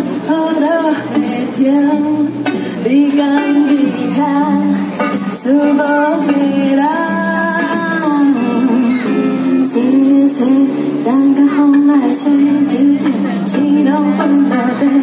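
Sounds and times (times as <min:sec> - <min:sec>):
acoustic and electric guitar: 0:00.0 - 0:15.0
woman singing: 0:00.0 - 0:15.0.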